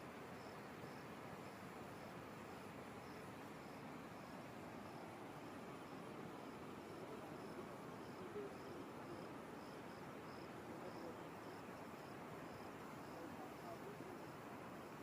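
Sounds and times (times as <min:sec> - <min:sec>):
insect chirping: 0:00.0 - 0:15.0
low background hiss: 0:00.0 - 0:15.0.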